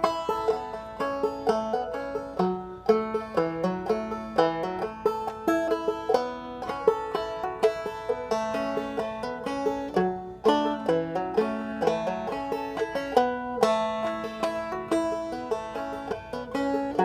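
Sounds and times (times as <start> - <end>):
banjo plucked melody: 0.0 - 17.0.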